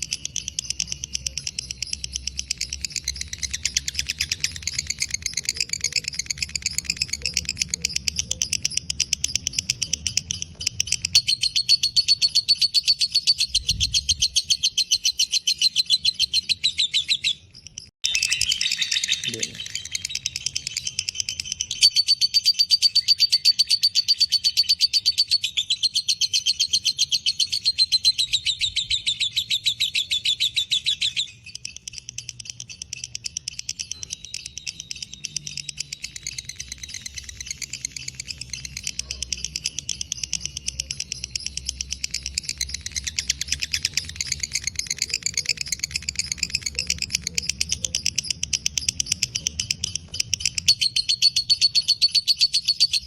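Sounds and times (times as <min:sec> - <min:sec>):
lovebird chattering trill: 0:00.0 - 0:53.0.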